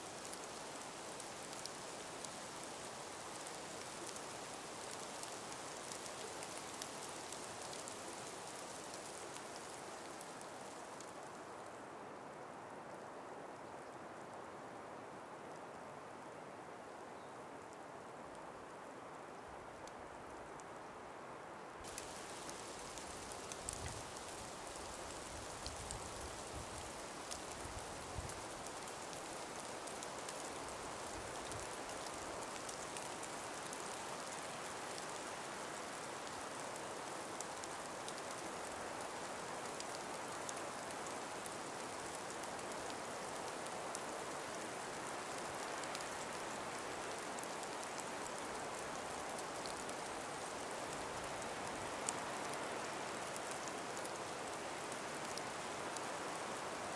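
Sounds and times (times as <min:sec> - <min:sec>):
small scattered ticks: 0:00.0 - 0:11.6, 0:21.8 - 0:56.9
breeze hiss: 0:00.0 - 0:11.9, 0:21.8 - 0:56.9.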